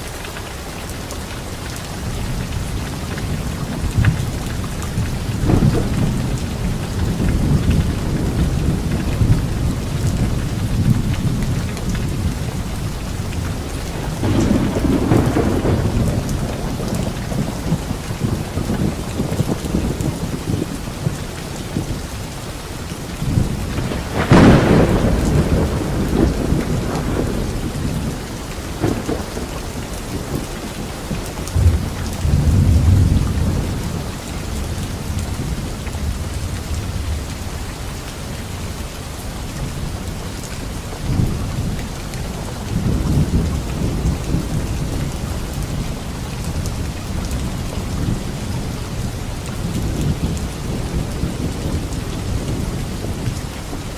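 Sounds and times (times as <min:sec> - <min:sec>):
steady rain: 0:00.0 - 0:53.9
thunder rumbling: 0:02.0 - 0:53.9.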